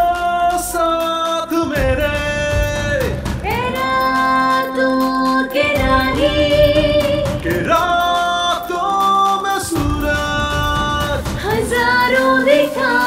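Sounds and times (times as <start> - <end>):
music with steady beat: 0.0 - 13.0.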